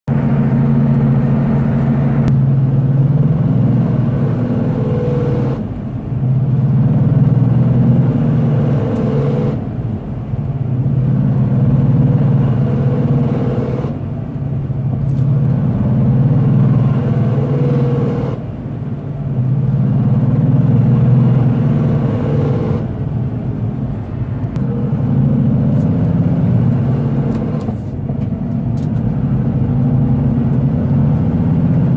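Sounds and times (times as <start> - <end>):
car pitched hum: 0.0 - 31.9.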